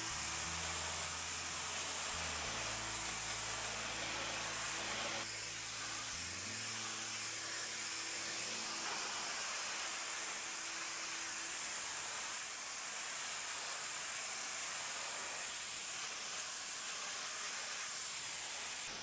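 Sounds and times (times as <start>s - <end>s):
pressure washer jet on stone: 0.0s - 19.0s.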